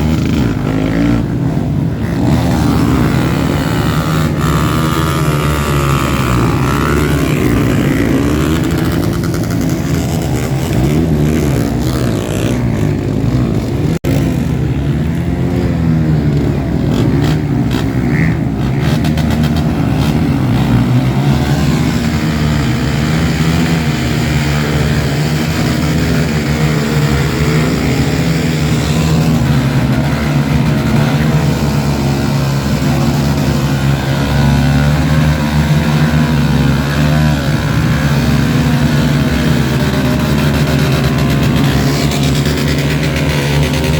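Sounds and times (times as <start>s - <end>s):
dirt bike engines revving: 0.0s - 43.9s.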